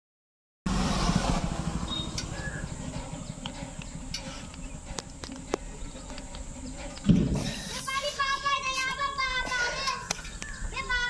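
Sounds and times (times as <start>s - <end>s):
low uneven rumble: 0.7s - 11.0s.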